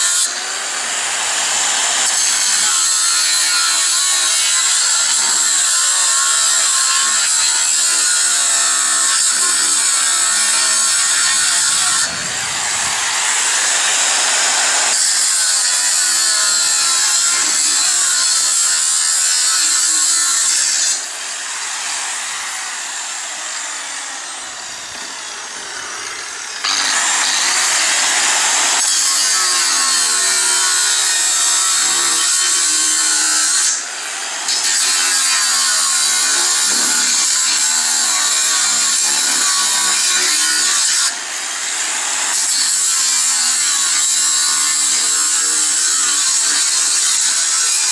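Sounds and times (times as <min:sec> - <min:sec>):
angle grinder cutting steel: 0:00.0 - 0:47.9.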